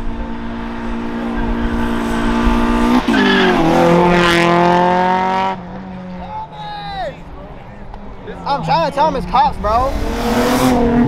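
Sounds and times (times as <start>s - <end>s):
car engine revving: 0.0s - 6.5s, 7.3s - 11.0s.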